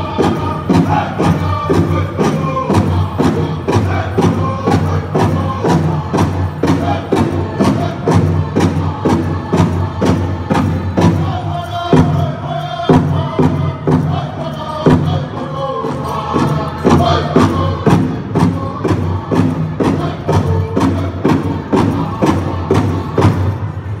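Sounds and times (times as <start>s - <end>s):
big drum beating: 0.0s - 23.7s
singers chanting high voices: 0.0s - 23.8s.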